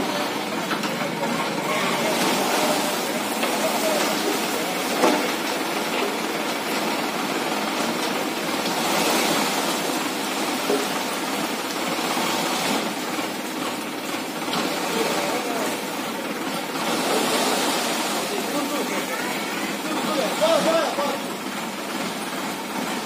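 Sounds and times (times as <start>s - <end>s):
tractor diesel engine running: 0.0s - 23.0s
soil pouring out rushing: 0.1s - 23.0s.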